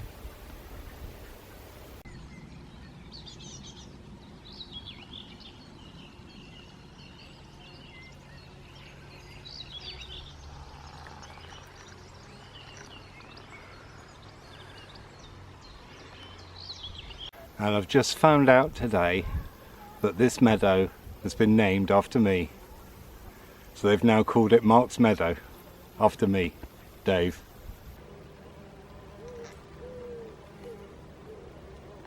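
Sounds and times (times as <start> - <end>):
birds singing and chirping: 0.0 - 28.0, 29.1 - 32.0.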